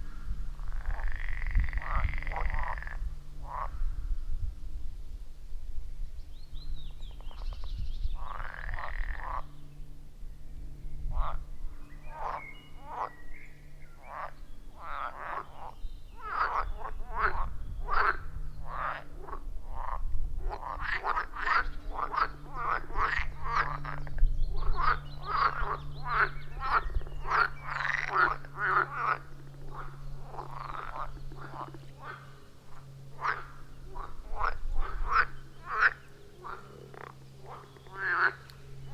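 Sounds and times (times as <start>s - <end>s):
frogs croaking: 0.0s - 4.1s, 8.2s - 10.1s, 10.7s - 38.9s.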